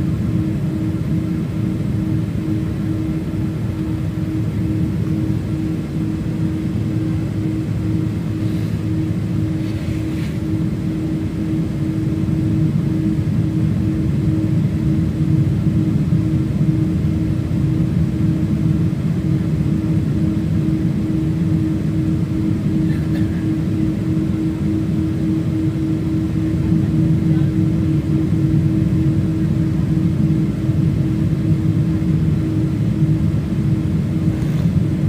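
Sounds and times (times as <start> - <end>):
jet engines taxiing rumble: 0.0 - 35.0.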